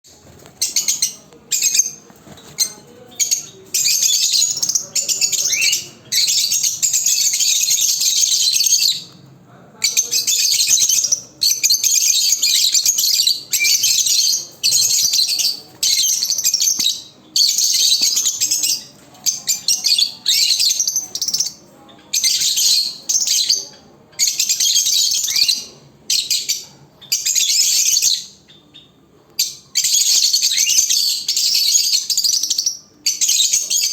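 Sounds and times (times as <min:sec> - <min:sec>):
lovebirds chattering and calling: 0:00.1 - 0:33.9.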